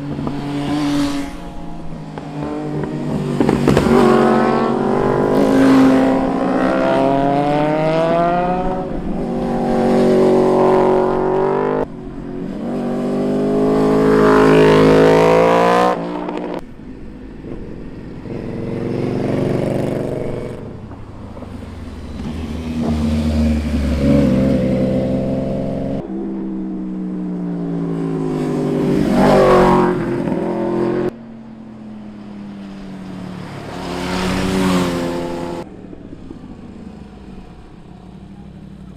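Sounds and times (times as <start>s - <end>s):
motorcycles revving past: 0.0s - 38.9s.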